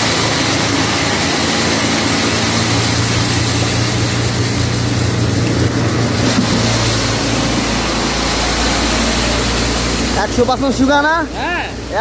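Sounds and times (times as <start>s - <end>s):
blower motor humming: 0.0s - 12.0s.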